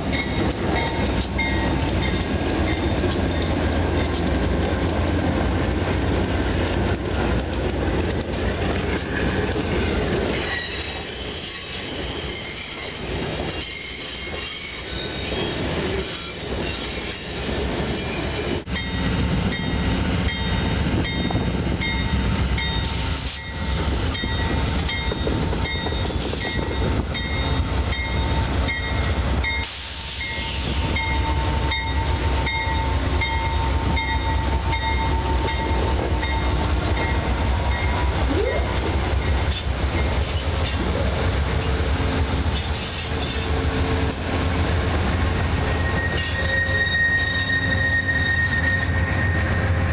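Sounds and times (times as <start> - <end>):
trains rolling past: 0.0 - 49.9
wheel noise on rails: 0.0 - 49.9.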